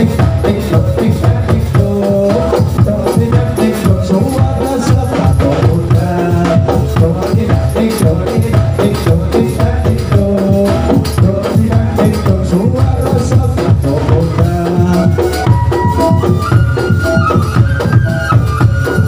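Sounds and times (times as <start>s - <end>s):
dance music with drums and percussion: 0.0s - 19.0s.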